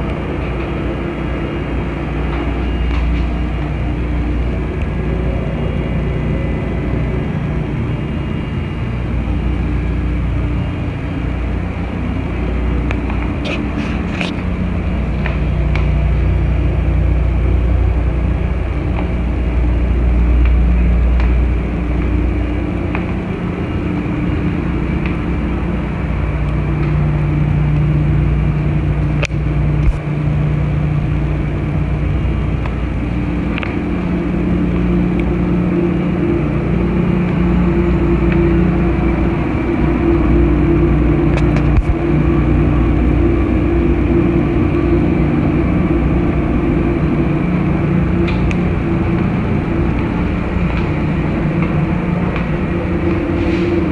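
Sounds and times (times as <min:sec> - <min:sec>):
deep rumble: 0:00.0 - 0:53.9
machinery drone and hum: 0:00.0 - 0:53.9.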